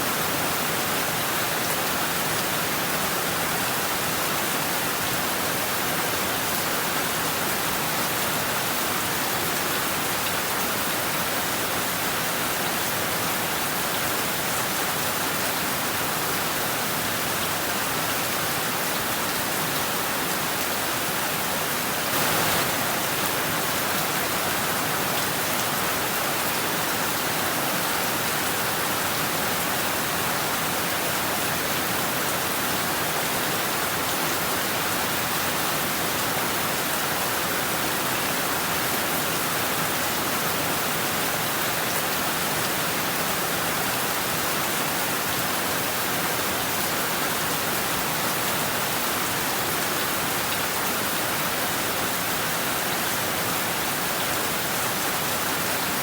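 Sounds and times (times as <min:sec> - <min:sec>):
heavy rain falling: 0:00.1 - 0:56.0.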